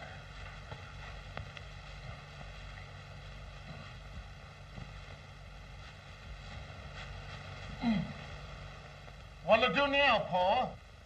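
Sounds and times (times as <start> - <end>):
film soundtrack hiss and hum: 0.0 - 11.0.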